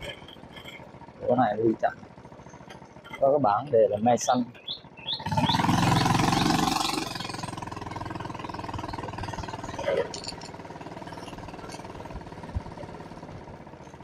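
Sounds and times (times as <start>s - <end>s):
small motorbike engine: 0.0s - 14.0s.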